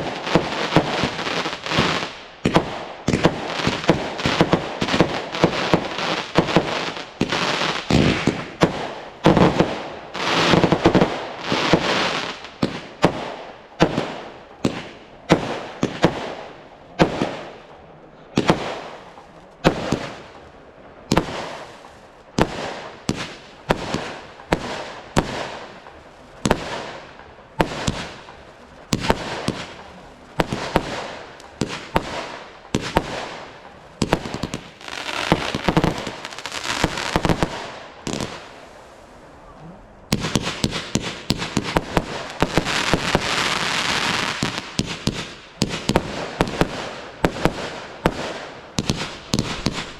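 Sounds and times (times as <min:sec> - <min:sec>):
fireworks bangs echoing: 0:00.0 - 0:39.5, 0:40.1 - 0:49.9.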